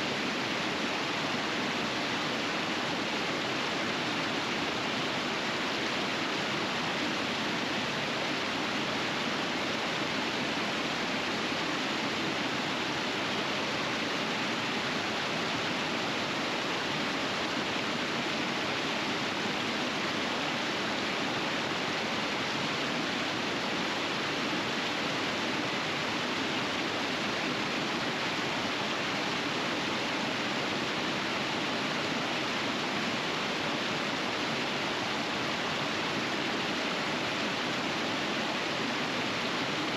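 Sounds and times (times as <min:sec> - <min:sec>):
river water rushing over rapids: 0:00.0 - 0:39.9.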